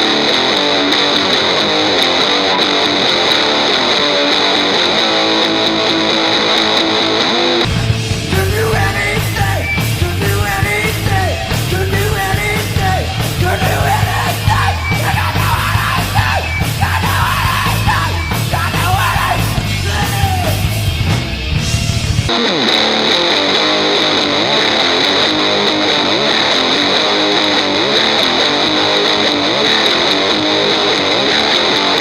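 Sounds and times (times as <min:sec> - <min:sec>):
lone electric guitar: 0:00.0 - 0:32.0
punk rock band playing: 0:00.0 - 0:32.0
yelled singing: 0:00.0 - 0:32.0.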